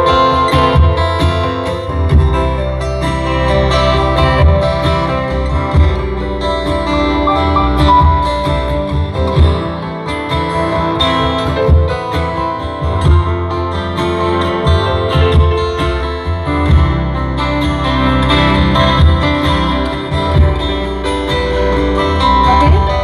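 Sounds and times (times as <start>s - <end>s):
plucked and strummed guitar: 0.0s - 23.0s
steady bass line: 0.0s - 23.0s.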